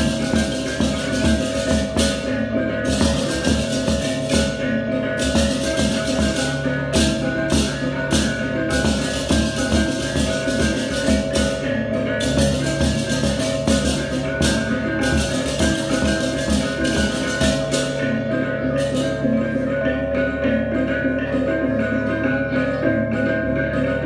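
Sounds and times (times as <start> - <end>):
driving drum pulse: 0.0 - 19.3
clashing cymbals: 0.0 - 19.7
ringing gongs: 0.0 - 24.0.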